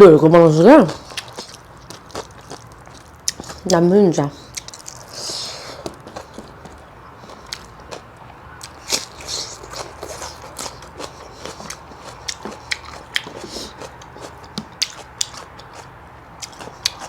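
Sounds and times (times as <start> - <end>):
person chewing food: 0.9 - 3.8, 4.4 - 17.0.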